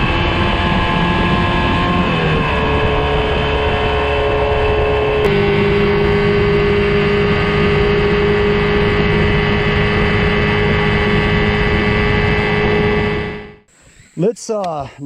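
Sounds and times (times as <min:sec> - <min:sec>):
boat motor humming: 0:00.0 - 0:14.3.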